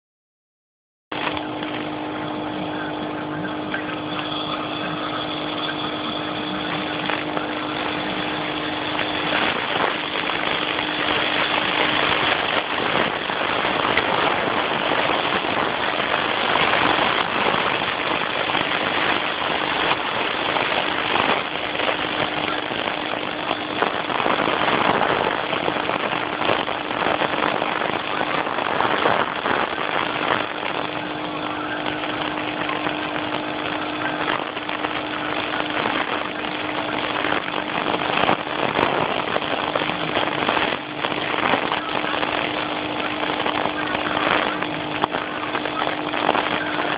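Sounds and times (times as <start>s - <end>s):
air compressor motor hum: 1.1s - 46.9s.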